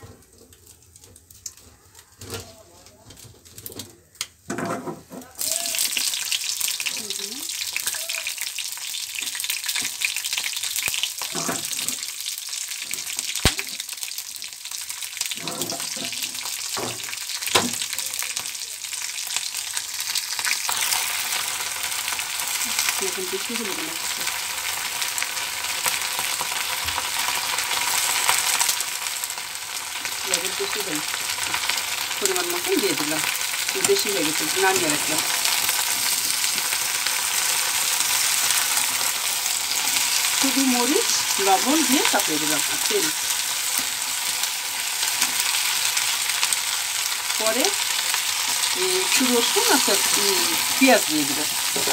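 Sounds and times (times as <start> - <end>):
food sizzling in hot oil: 4.5 - 51.9.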